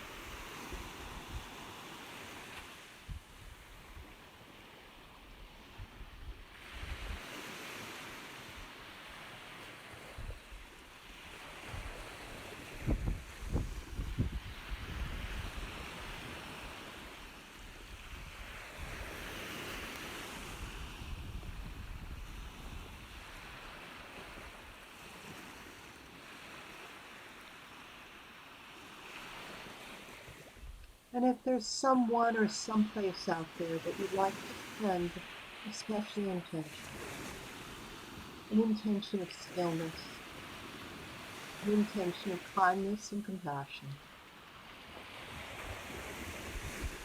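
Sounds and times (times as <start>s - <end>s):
wave washing in: 5.6s - 47.0s.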